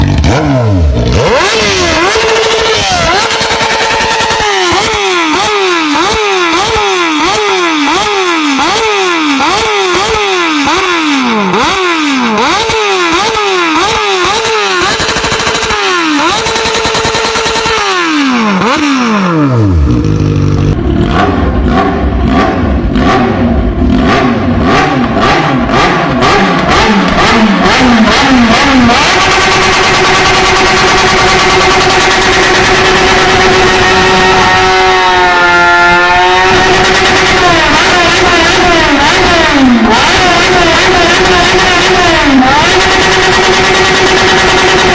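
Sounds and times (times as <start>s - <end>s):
engine with crackling cuts: 0.0s - 44.9s
motorcycle engine on rev limiter: 0.0s - 44.9s.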